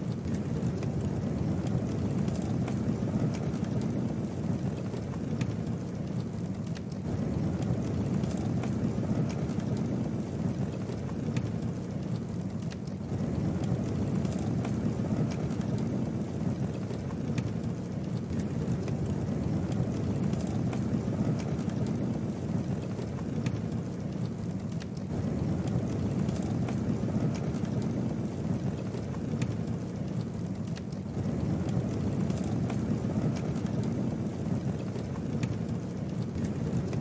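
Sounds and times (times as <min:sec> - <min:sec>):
fire crackles: 0:00.0 - 0:37.0
low rumble of flames: 0:00.0 - 0:37.0.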